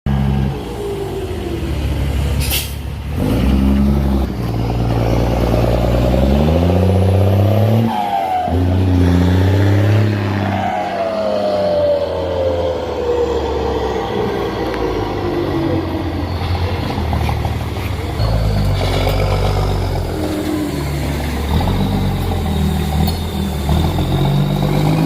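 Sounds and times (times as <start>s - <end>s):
diesel truck engine pulling away: 0.1s - 25.0s.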